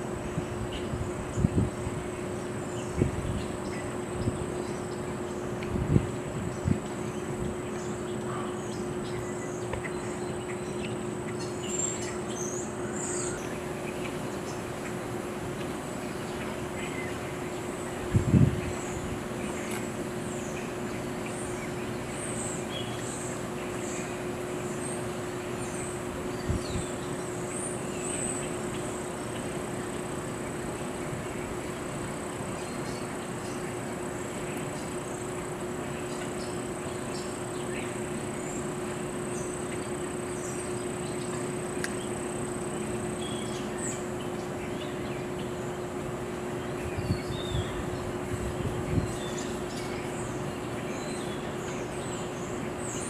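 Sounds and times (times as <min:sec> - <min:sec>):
high steady whine: 0:00.0 - 0:53.0.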